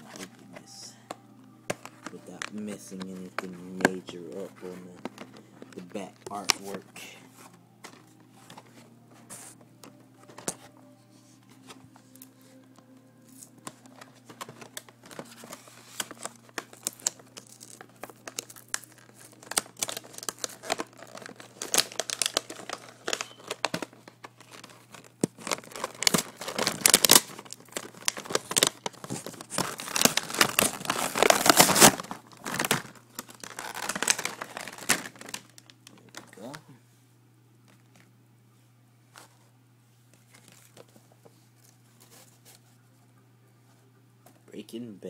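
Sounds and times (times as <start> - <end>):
packaging crinkling and rustling: 0.0 - 10.8, 11.4 - 36.6, 40.1 - 42.8.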